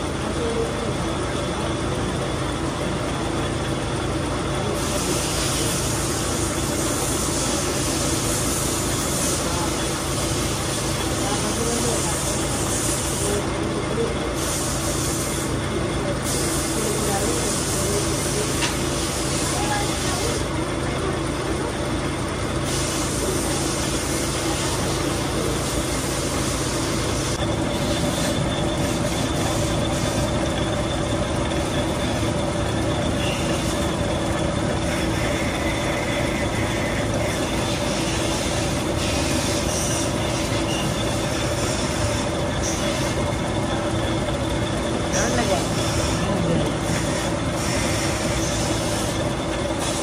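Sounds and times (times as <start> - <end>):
constant machine whine: 0.0 - 50.0
workshop machinery running: 0.0 - 50.0.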